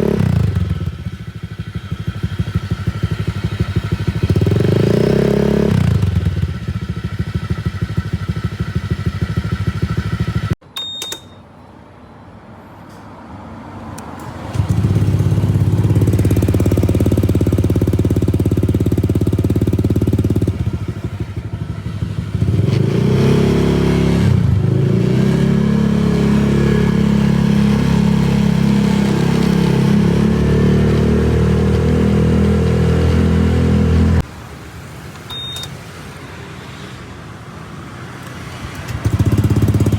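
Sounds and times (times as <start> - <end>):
scooter engine idling and revving: 0.0 - 10.6, 14.0 - 39.9.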